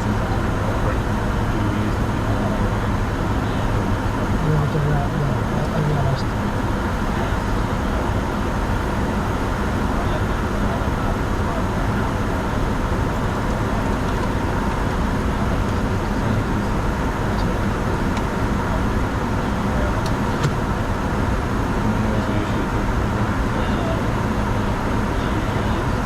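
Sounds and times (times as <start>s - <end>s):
jet cockpit airflow and engine noise: 0.0s - 26.0s.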